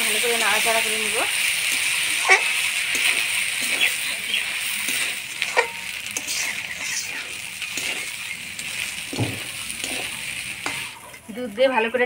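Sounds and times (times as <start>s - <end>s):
rice hissing in a pot: 0.0s - 12.0s
spatula scraping and clinking: 1.6s - 11.3s.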